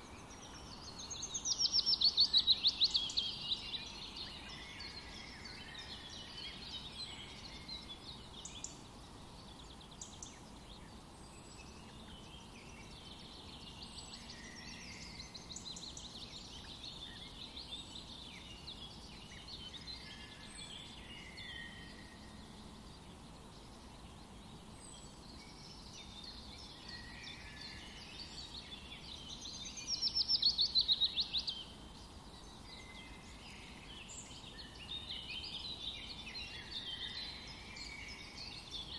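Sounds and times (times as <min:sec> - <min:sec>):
songbirds chirping and warbling: 0:00.0 - 0:38.9.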